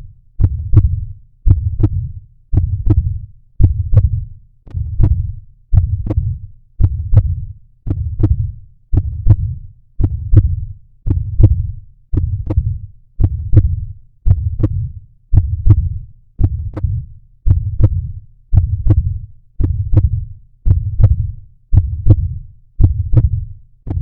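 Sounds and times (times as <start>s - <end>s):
heartbeat thumping: 0.0s - 24.0s.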